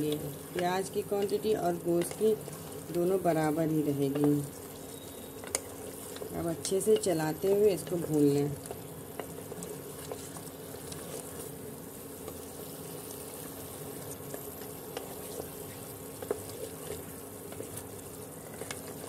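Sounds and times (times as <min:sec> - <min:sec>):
steady low hum: 0:00.0 - 0:19.0
stew bubbling and sizzling: 0:00.0 - 0:19.0.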